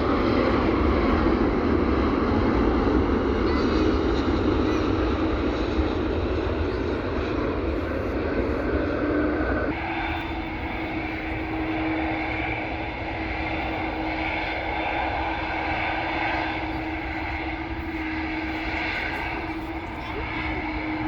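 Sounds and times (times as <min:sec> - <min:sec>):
jet engines droning: 0:00.0 - 0:21.0.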